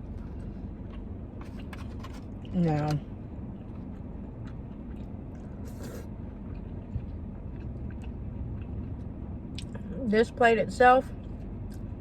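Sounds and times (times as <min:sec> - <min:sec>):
faint chewing: 0:00.0 - 0:10.0, 0:11.2 - 0:12.0
steady low rumble: 0:00.0 - 0:12.0.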